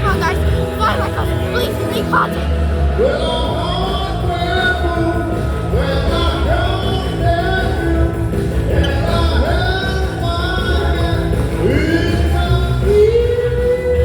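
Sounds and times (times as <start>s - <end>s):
heavy bass beat: 0.0s - 14.0s
live band music: 0.0s - 14.0s
person singing: 0.0s - 14.0s.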